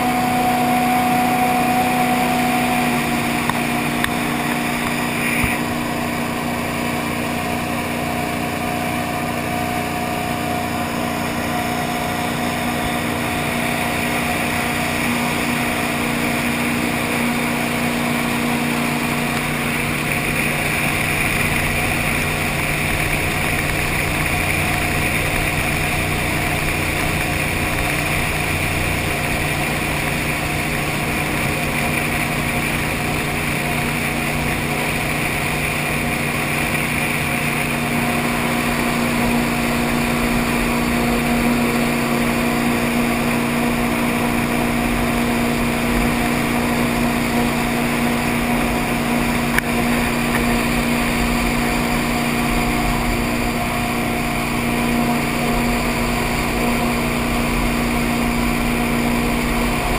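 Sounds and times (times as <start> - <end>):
boat engine running: 0.0 - 59.9
water rushing: 0.0 - 59.9.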